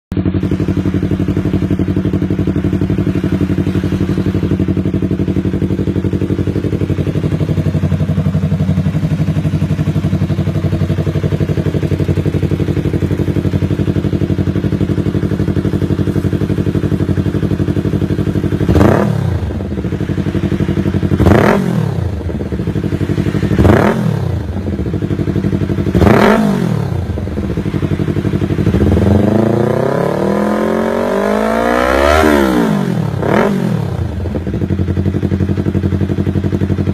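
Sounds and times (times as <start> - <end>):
motorcycle engine revving: 0.1 - 36.9.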